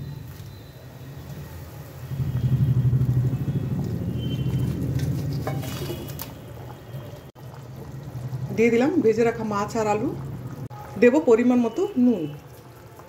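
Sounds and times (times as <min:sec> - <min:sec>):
gravy bubbling: 0:02.2 - 0:13.0.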